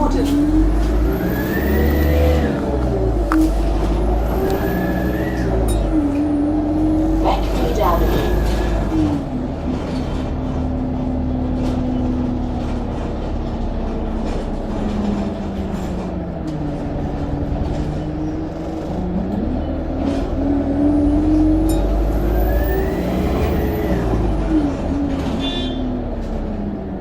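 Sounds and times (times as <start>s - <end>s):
bus engine: 0.0s - 27.0s.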